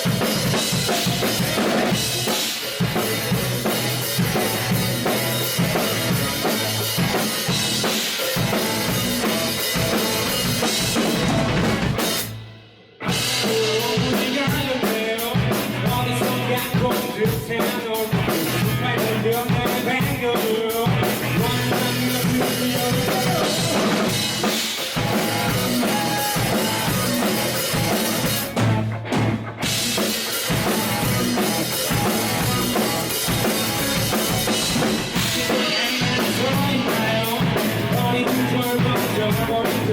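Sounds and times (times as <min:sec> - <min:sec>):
drum kit kick and snare: 0:00.0 - 0:39.9
live band playing: 0:00.0 - 0:39.9.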